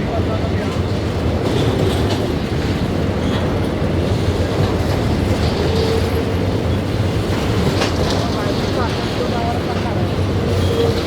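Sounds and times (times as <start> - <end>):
clickety-clack over rail joints: 0.0 - 11.0
train wheels rumbling on rails: 0.0 - 11.0.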